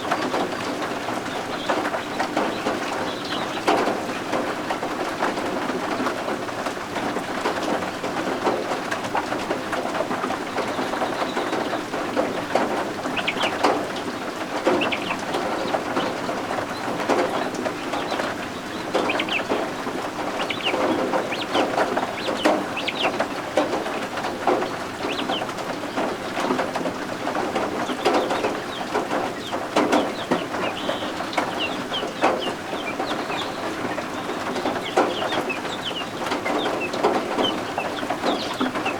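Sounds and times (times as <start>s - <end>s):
chicks peeping: 0.0s - 38.9s
rain hiss: 0.0s - 38.9s.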